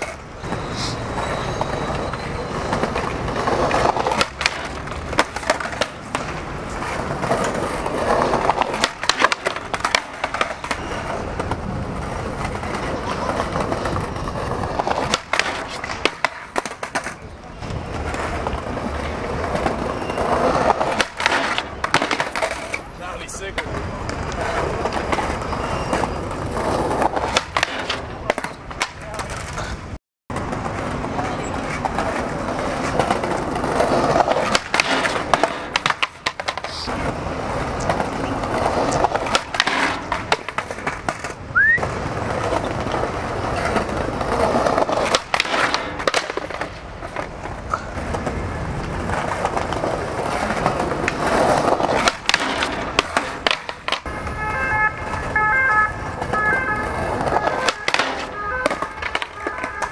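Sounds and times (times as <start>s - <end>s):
skateboard wheels rolling on concrete: 0.0s - 59.9s
skateboard pops and clacks: 2.6s - 22.9s, 23.5s - 29.7s, 30.3s - 54.4s, 55.0s - 59.9s.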